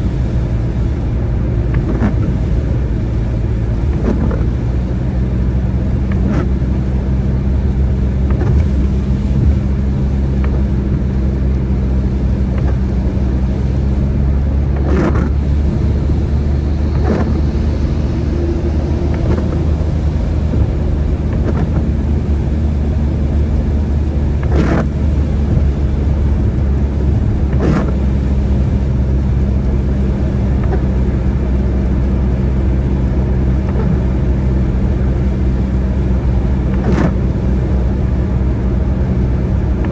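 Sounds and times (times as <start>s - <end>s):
car driving in the rain: 0.0s - 39.9s.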